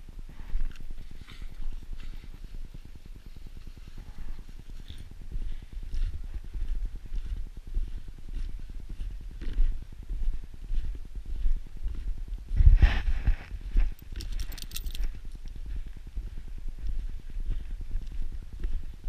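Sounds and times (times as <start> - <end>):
low microphone rumble: 0.0 - 19.0.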